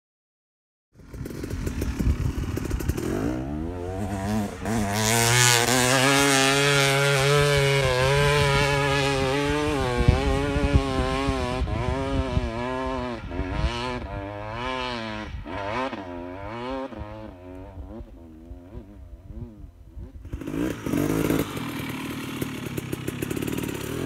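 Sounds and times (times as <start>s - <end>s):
dirt bike engine revving: 1.0s - 24.0s.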